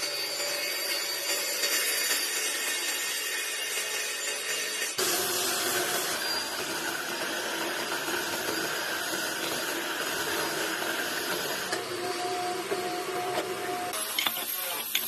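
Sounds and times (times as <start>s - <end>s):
power tool motor whirring: 0.0s - 15.0s.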